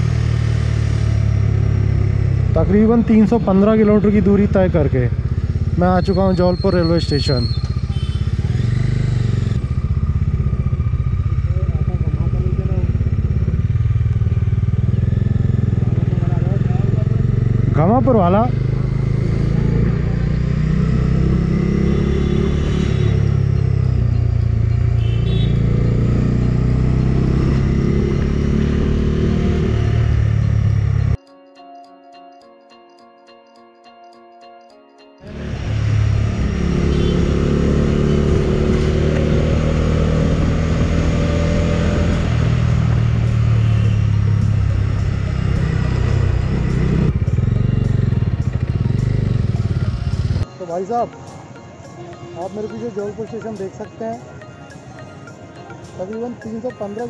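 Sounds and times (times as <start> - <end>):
motorcycle engine running: 0.0 - 31.2, 35.3 - 50.4
road and wind noise: 0.0 - 31.2, 35.2 - 57.0.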